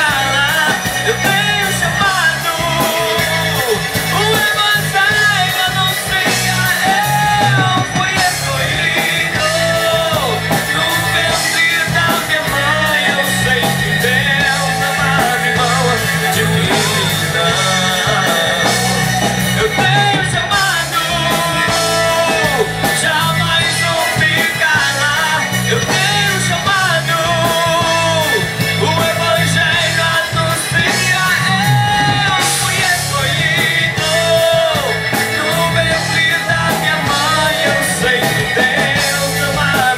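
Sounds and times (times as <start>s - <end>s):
lead voice singing: 0.0s - 39.9s
rock band playing: 0.0s - 39.9s.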